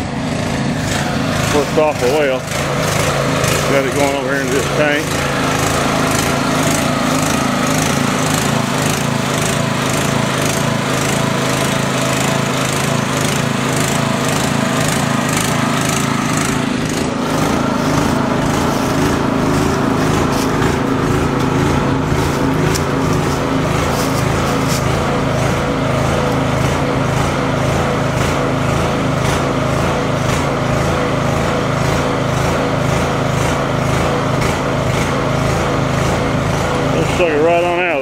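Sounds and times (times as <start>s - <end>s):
small engine pump running: 0.0s - 38.0s.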